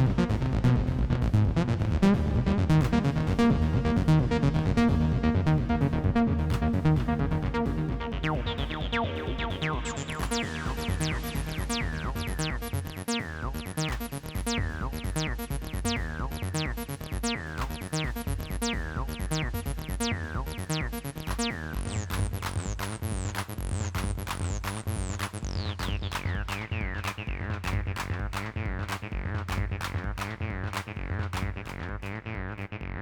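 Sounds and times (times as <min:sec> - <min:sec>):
synth bass line: 0:00.0 - 0:33.0
drum machine beat: 0:02.8 - 0:32.1.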